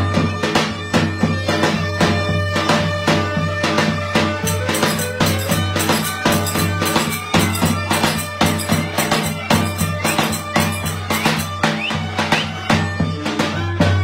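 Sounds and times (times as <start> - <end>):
drum beats: 0.0 - 14.0
reed instrument over a drone: 0.0 - 14.0.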